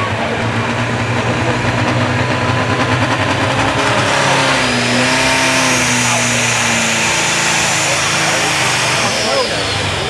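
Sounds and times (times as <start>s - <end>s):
diesel tractor engine idling and revving: 0.0s - 10.0s.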